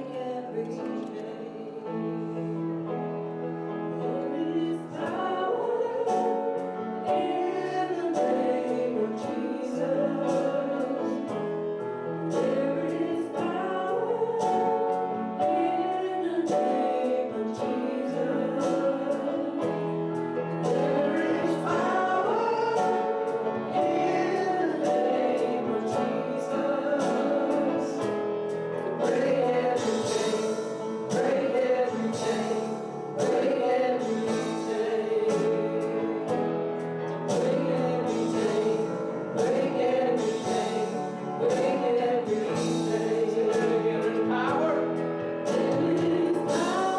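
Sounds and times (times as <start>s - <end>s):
choir singing a hymn: 0.0s - 46.9s
instrumental accompaniment: 0.0s - 46.9s.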